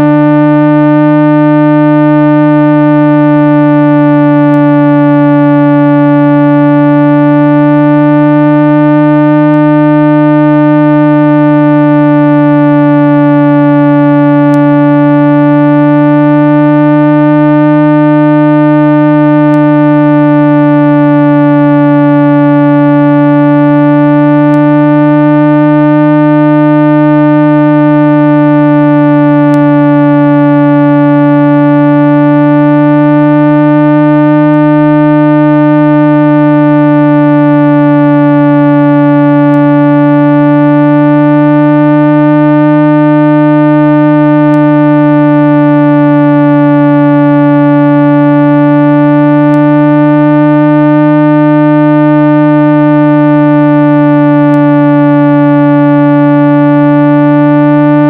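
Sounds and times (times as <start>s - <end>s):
synthesized low hum tone: 0.0s - 58.0s.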